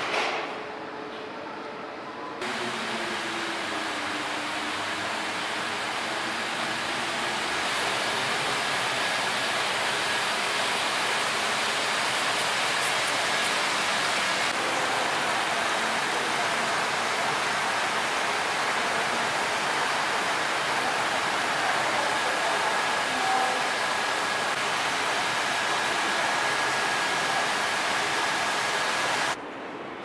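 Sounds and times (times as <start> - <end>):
rushing hiss: 2.4 - 29.4.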